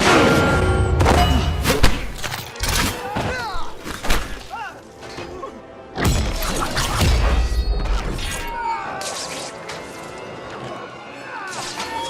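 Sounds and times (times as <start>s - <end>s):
music: 0.0s - 12.0s.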